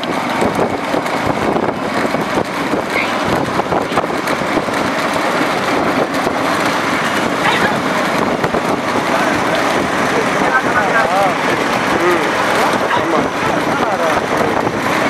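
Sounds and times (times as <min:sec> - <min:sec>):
road vehicle driving on highway: 0:00.0 - 0:15.0.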